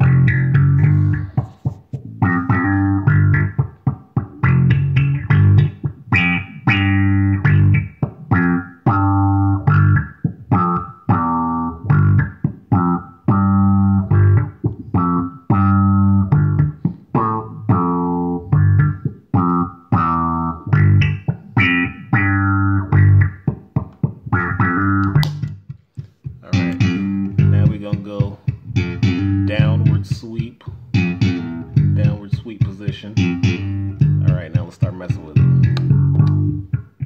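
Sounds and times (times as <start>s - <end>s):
electric bass riff with filter effect: 0.0s - 37.0s.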